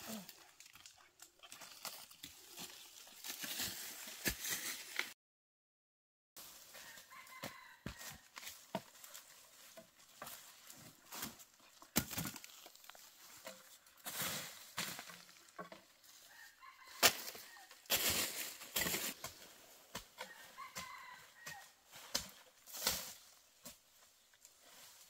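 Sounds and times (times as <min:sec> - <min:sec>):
rustling in dry leaves: 0:01.6 - 0:05.2, 0:06.4 - 0:11.7, 0:12.4 - 0:25.0.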